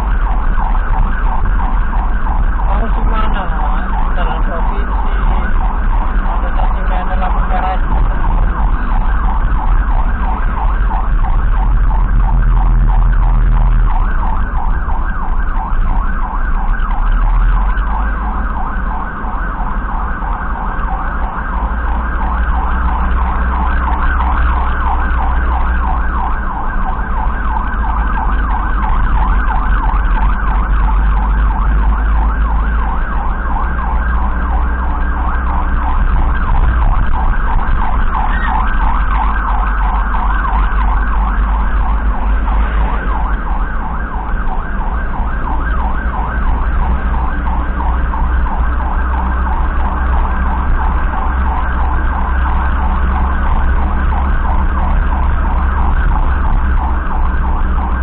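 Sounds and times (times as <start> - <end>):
electronic siren warbling: 0.0 - 58.0
road noise: 0.0 - 58.0
vehicle engine rumble: 0.0 - 58.0.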